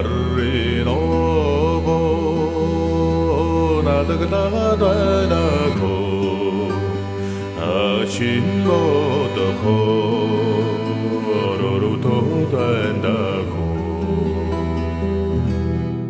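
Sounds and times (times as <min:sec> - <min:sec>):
chanted vocals: 0:00.0 - 0:15.3.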